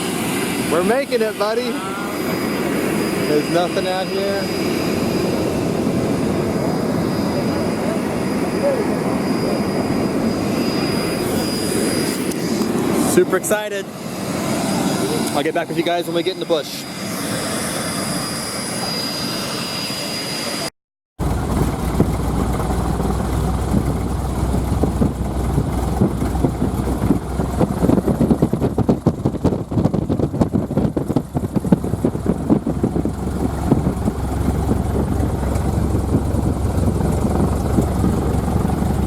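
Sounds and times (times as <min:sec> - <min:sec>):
propeller aircraft engine drone: 0:00.0 - 0:39.0.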